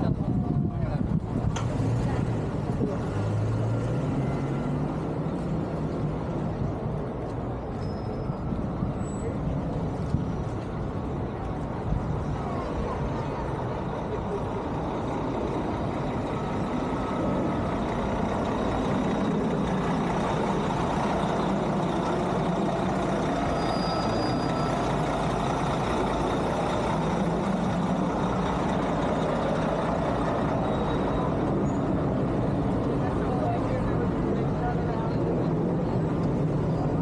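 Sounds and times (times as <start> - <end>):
large vehicle engine: 0.0 - 37.0
road traffic: 0.0 - 37.0.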